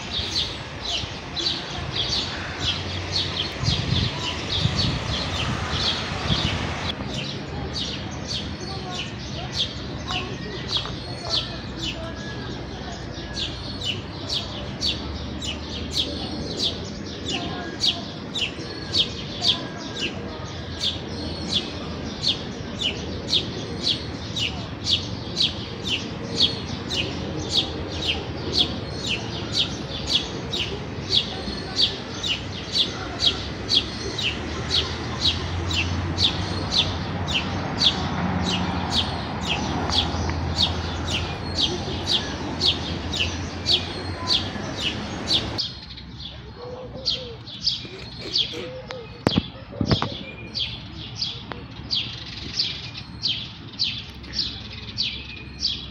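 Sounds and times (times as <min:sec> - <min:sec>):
sparrow chirping: 0:00.0 - 0:55.9.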